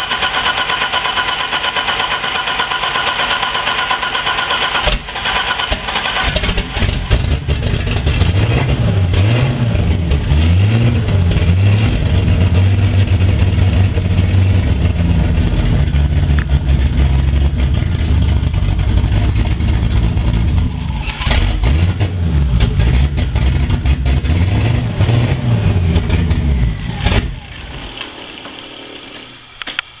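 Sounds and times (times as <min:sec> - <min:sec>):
car engine revving: 0:04.6 - 0:28.8.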